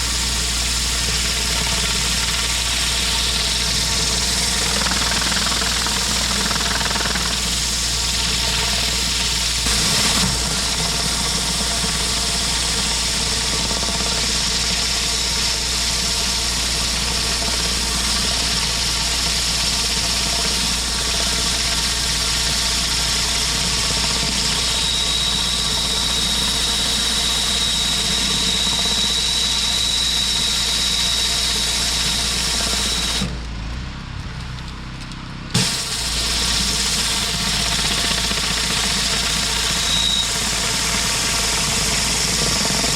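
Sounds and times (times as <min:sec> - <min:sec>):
pressure washer engine running: 0:00.0 - 0:33.4, 0:34.9 - 0:42.9.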